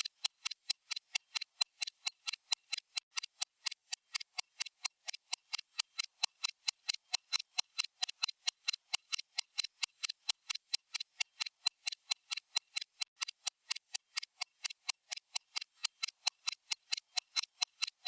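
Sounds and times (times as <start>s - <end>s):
stopwatch ticking: 0.0s - 18.0s.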